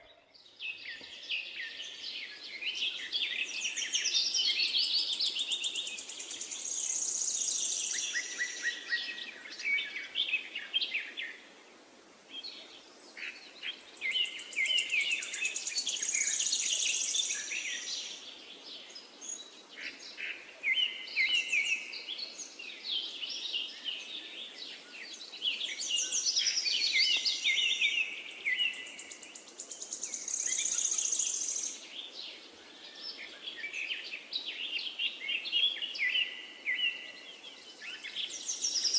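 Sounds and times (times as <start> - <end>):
songbird twittering: 0.0 - 11.4, 13.2 - 18.2, 19.2 - 38.9
faint background hiss: 0.0 - 38.9.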